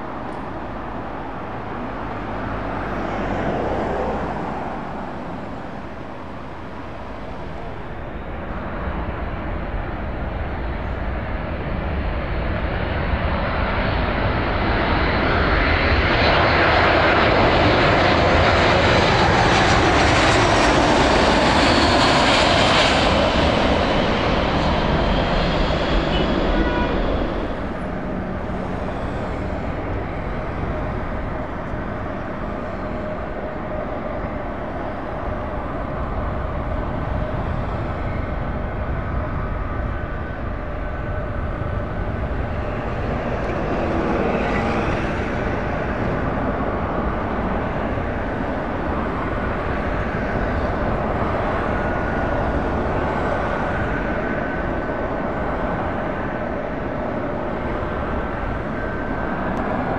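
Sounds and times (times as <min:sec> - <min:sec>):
jet aircraft passing overhead: 0:00.0 - 0:59.9.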